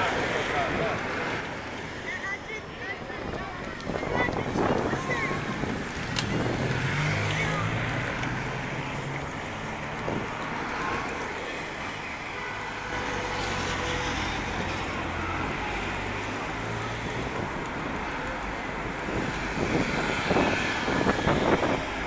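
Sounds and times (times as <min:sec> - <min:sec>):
road noise: 0:00.0 - 0:22.0
cars driving past: 0:03.2 - 0:22.0.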